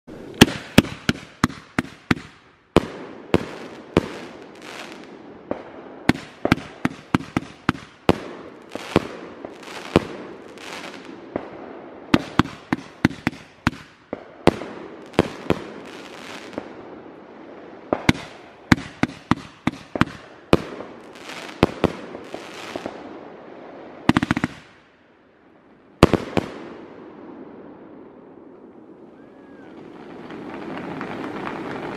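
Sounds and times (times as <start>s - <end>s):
fireworks bangs: 0.1s - 23.3s, 24.0s - 24.8s, 26.0s - 27.5s, 29.2s - 31.9s
fireworks crackling hiss: 0.1s - 24.8s, 29.2s - 31.9s.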